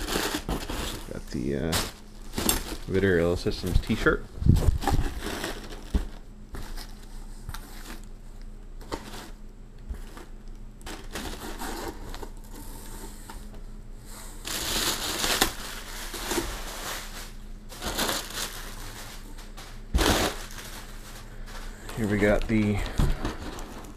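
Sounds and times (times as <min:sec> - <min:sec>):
plastic bags and cardboard crinkling: 0:00.0 - 0:08.2, 0:08.8 - 0:13.4, 0:14.3 - 0:23.9.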